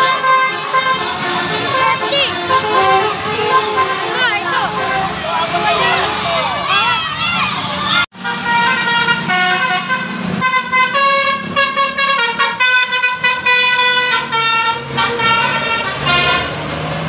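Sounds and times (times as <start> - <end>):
multi-tone bus air horn tune: 0.0 - 6.3, 8.1 - 16.8.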